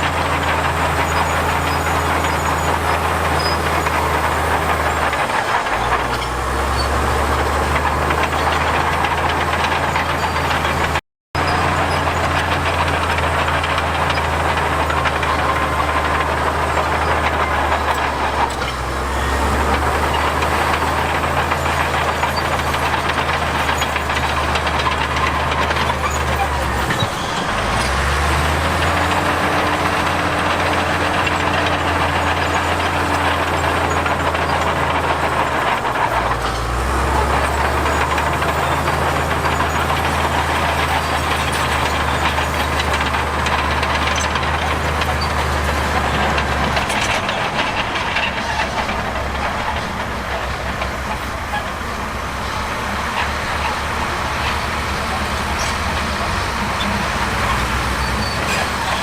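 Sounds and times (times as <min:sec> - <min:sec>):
construction machine diesel engines: 0:00.0 - 0:59.0.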